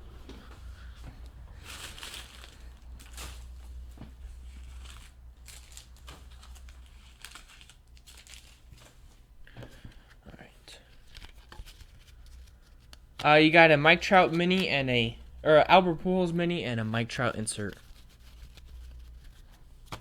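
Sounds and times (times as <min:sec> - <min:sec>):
low electrical hum: 0:00.0 - 0:20.0
cards and wrappers rustling: 0:00.3 - 0:20.0.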